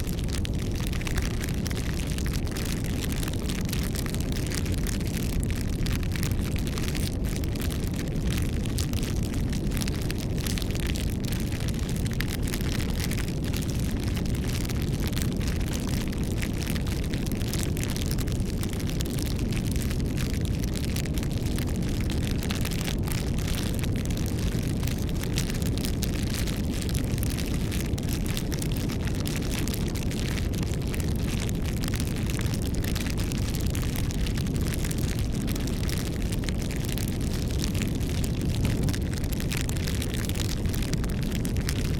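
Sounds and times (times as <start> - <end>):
burning wood crackling: 0.0 - 41.9
low rumble of flames: 0.0 - 41.9.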